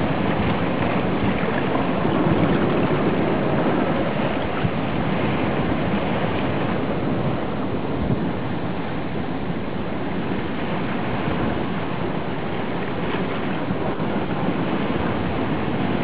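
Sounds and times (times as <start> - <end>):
underwater rushing water and surf: 0.0 - 16.0.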